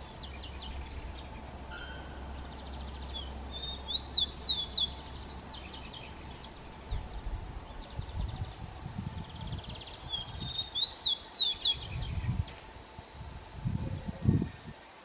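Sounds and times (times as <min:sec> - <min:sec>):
sparrow singing whistles: 0:00.0 - 0:13.2
low steady rumble: 0:00.0 - 0:14.7.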